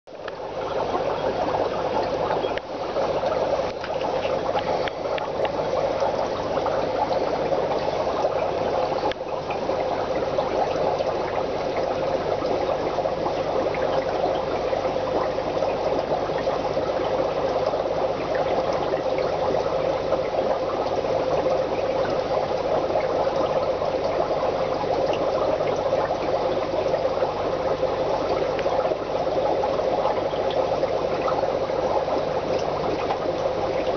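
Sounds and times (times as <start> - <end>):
aquarium water churning: 0.1 - 33.9.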